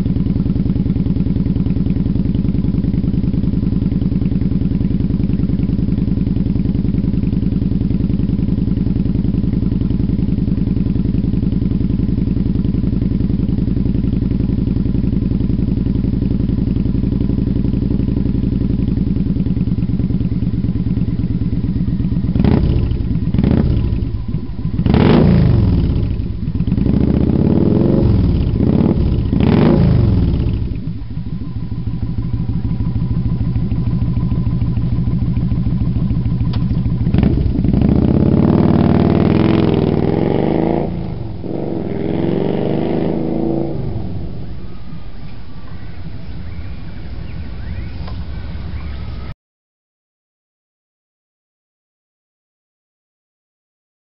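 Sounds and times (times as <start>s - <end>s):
motorcycle accelerating: 0.0s - 49.3s
motorcycle engine idling and revving: 0.0s - 49.4s.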